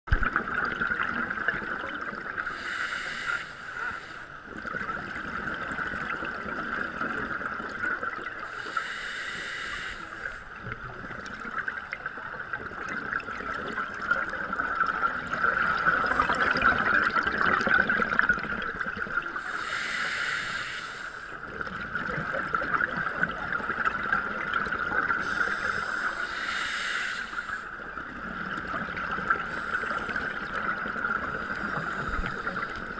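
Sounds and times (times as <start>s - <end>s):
scuba regulator bubbles gurgling: 0.1s - 32.9s.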